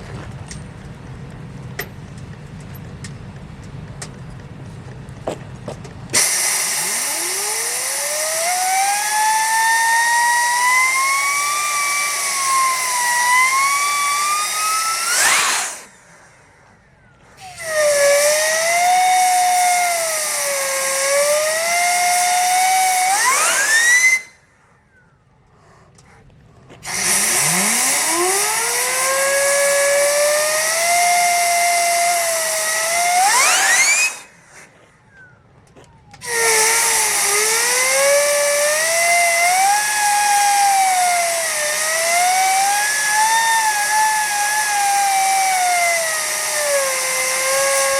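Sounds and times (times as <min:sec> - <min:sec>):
gas turbine whine and hiss: 0:00.0 - 0:47.9.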